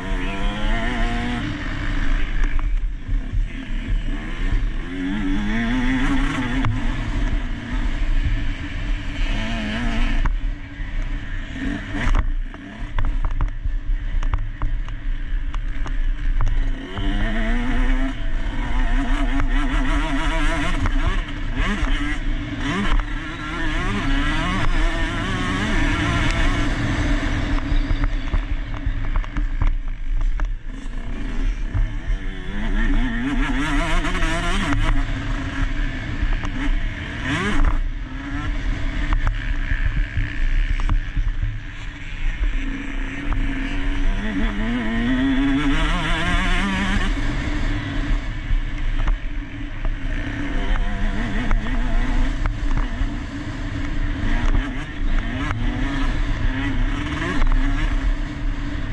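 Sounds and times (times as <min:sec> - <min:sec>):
motocross engine revving: 0:00.0 - 0:58.9.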